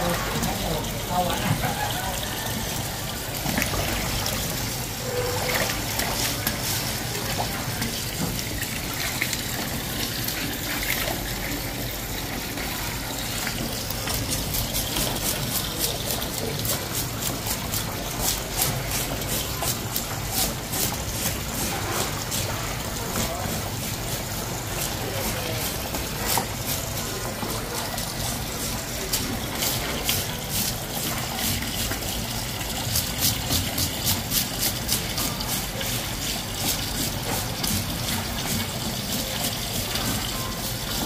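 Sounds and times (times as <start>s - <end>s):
running water: 0.0s - 41.0s.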